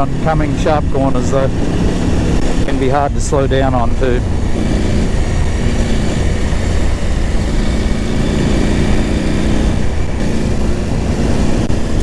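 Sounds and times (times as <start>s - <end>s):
motorcycle engine cruising: 0.0s - 12.0s
wind and road rumble: 0.0s - 12.0s.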